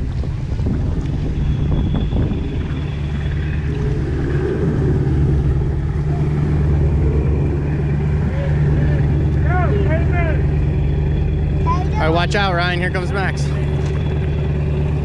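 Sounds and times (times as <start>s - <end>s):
vehicle engine humming: 0.0s - 15.0s
water noise: 0.0s - 15.0s.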